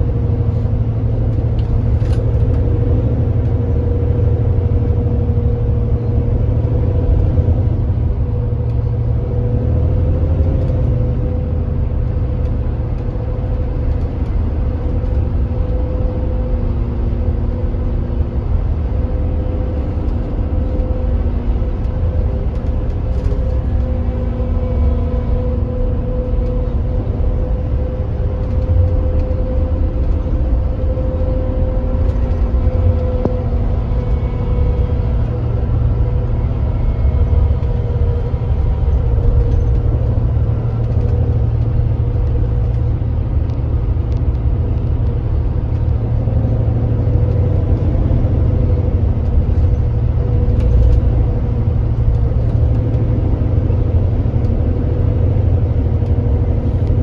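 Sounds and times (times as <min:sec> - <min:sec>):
coach diesel engine rumble: 0:00.0 - 0:57.0.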